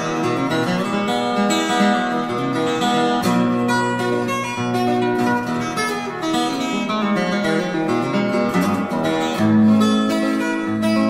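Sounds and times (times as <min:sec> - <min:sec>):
acoustic guitar picking a tune: 0:00.0 - 0:11.0.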